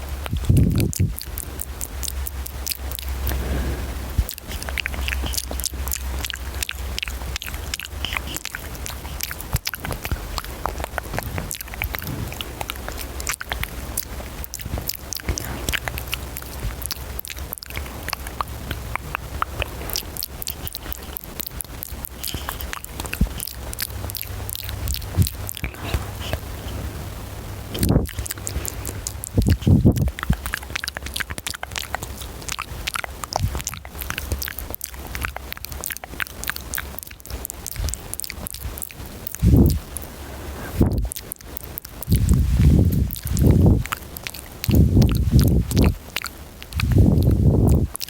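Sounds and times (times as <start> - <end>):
steady low hum: 0.0 - 48.0
wet mouth clicks and smacks: 0.0 - 48.0.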